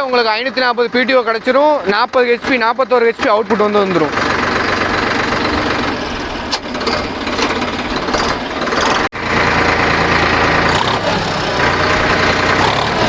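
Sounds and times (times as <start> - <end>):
tractor diesel engine clatter: 0.0 - 13.0.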